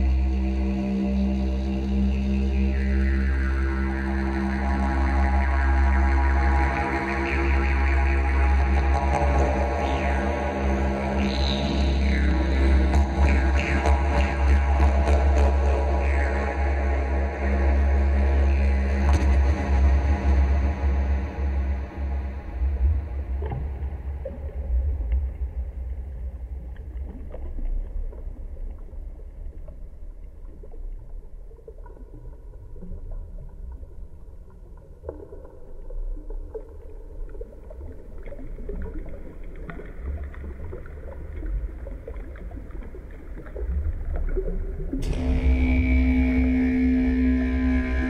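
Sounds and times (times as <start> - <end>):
low ambient rumbling: 0.0 - 48.0.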